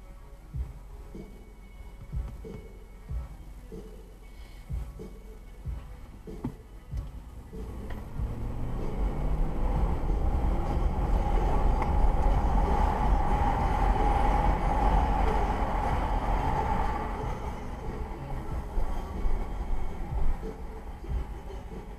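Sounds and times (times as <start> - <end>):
car road and engine rumble: 0.0 - 21.9.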